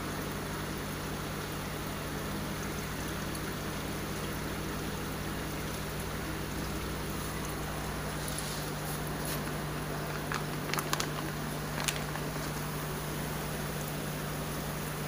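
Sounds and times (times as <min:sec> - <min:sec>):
aquarium pumps humming: 0:00.0 - 0:15.0
running water: 0:00.0 - 0:15.0.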